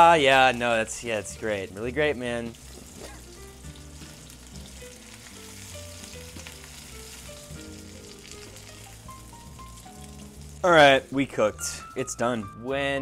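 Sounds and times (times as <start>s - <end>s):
steak sizzling in a pan: 0.0s - 12.0s
quiet background music: 0.0s - 13.0s.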